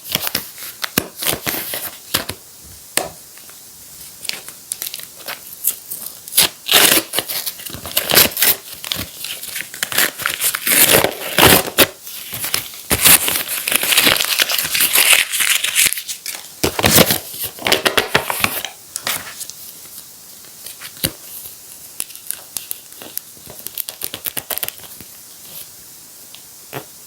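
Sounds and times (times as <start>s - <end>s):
paper and tape crinkling: 0.0s - 2.4s, 3.4s - 25.7s.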